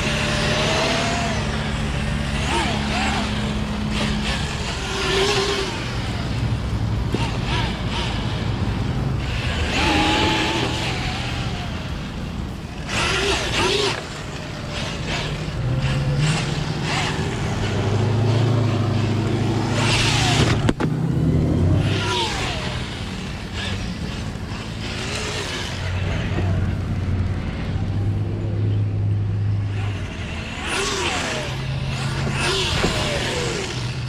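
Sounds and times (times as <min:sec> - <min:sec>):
rc truck motor whining: 0:00.0 - 0:28.5, 0:29.3 - 0:34.0.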